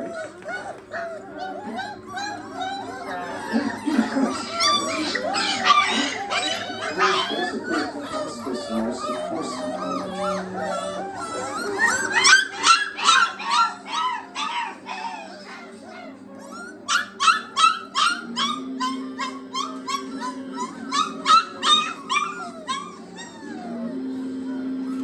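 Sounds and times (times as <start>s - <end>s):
puppies yelping and whining: 0.0s - 25.0s.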